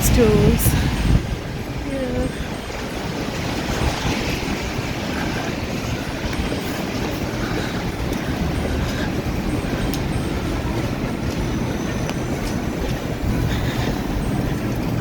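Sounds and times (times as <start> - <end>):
low traffic rumble: 0.0 - 15.0
traffic on wet roads: 0.0 - 15.0.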